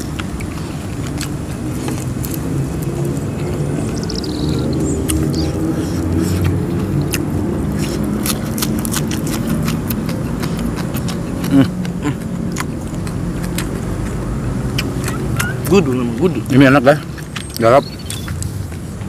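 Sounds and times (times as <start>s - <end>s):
crisp chewing: 0.0s - 18.9s.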